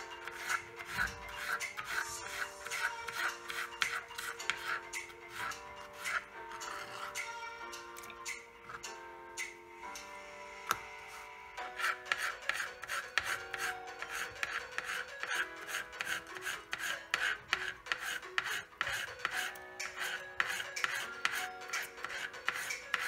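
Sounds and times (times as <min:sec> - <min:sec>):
knife slicing potato on cutting board: 0:00.1 - 0:07.3, 0:11.7 - 0:23.0.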